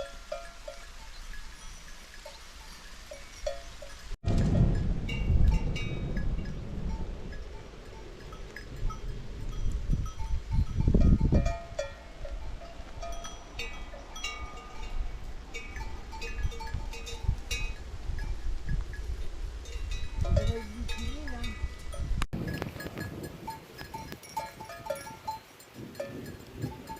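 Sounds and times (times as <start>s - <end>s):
small bells clinking: 0.0s - 4.2s, 5.2s - 26.9s.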